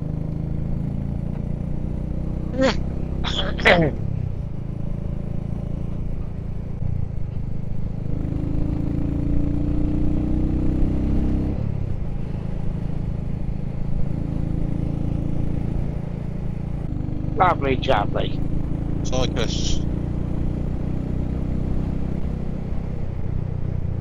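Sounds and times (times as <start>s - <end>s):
motorcycle engine accelerating: 0.0s - 24.0s
wind and road noise: 0.0s - 24.0s.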